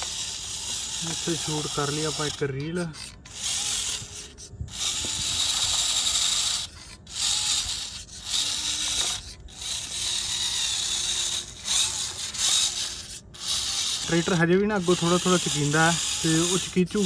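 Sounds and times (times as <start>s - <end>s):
toy tractor motor whirring: 0.0s - 17.0s.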